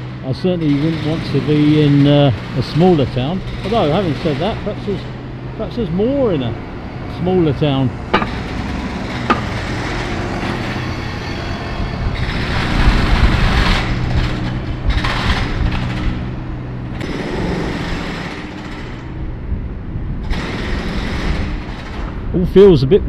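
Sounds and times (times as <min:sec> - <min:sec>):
diesel bus engine passing: 0:00.0 - 0:21.7
road noise: 0:00.0 - 0:23.0.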